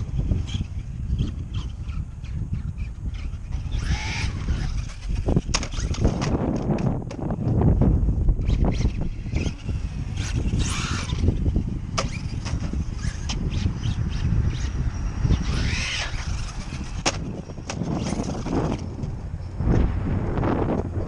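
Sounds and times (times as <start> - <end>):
rc truck motor: 0.0 - 19.6
wind rumble on microphone: 0.0 - 21.0.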